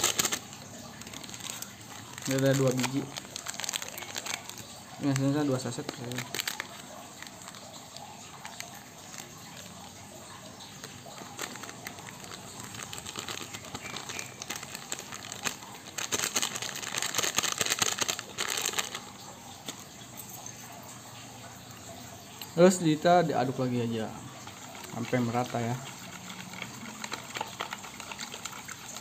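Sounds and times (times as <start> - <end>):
plastic sachet crinkling: 0.0 - 20.0, 23.6 - 29.0.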